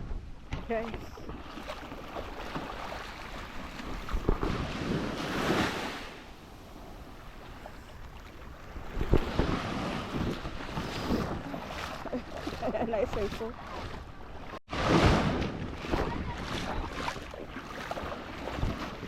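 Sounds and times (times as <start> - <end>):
wind buffeting microphone: 0.0 - 5.5, 6.6 - 19.0.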